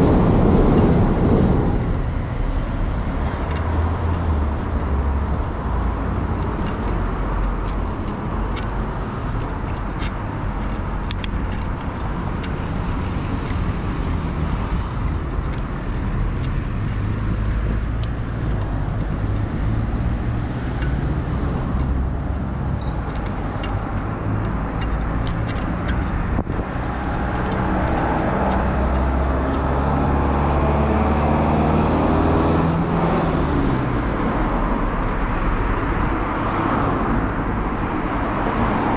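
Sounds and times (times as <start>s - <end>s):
road traffic passing: 0.0s - 38.9s
vehicle engine passing close: 0.0s - 38.9s
wind rumbling on microphone: 0.0s - 38.9s.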